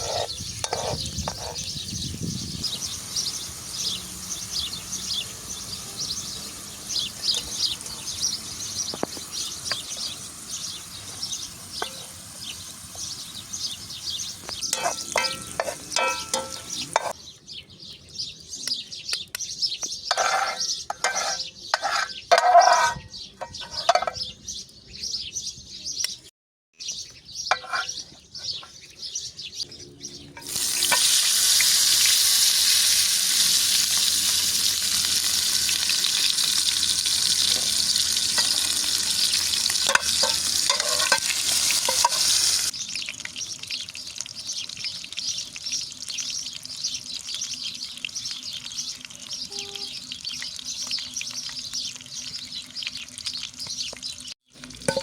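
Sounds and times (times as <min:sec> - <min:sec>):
food sizzling as it fries: 0:00.0 - 0:17.2, 0:20.1 - 0:23.0, 0:30.3 - 0:55.0
birds chirping: 0:00.0 - 0:31.1, 0:32.0 - 0:55.0.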